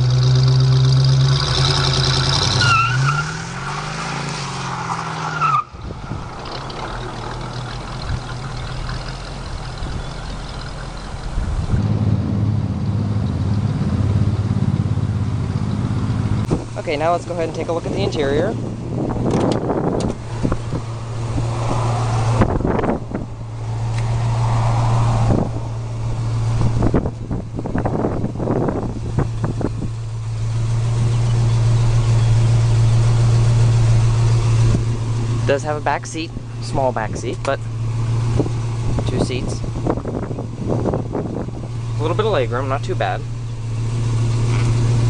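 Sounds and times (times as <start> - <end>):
car engine running: 0.0 - 45.0
road noise: 0.0 - 45.0.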